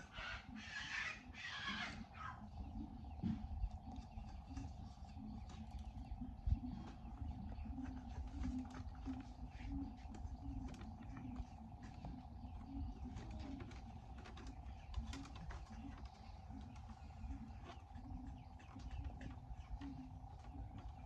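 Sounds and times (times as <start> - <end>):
faint steady hum: 0.0 - 21.0
pigeons cooing: 0.0 - 21.0.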